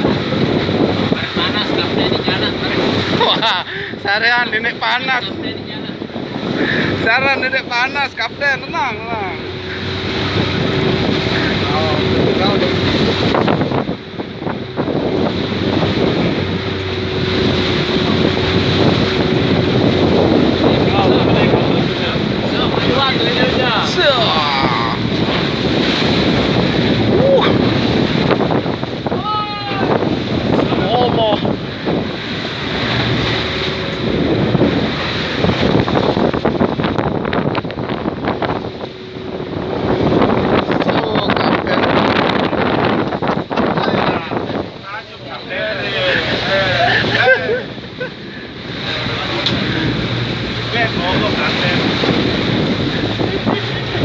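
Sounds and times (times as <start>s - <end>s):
boat engine running: 0.0s - 54.0s
sea waves rushing: 0.0s - 54.0s
wind buffeting microphone: 0.0s - 54.0s.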